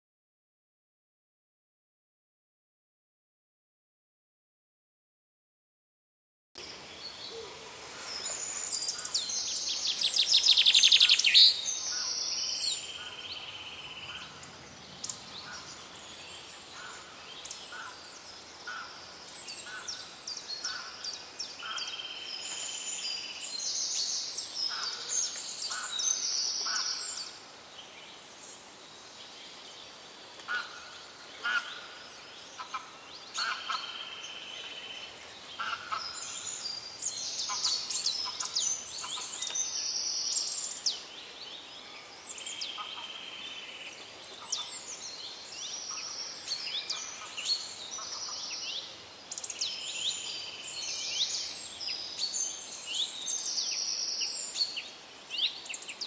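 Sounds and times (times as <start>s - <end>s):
birds chirping and trilling: 6.6s - 56.0s.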